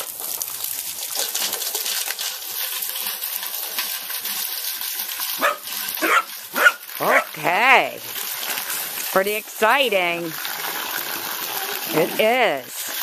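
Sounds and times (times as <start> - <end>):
water pouring into bucket: 0.0 - 13.0.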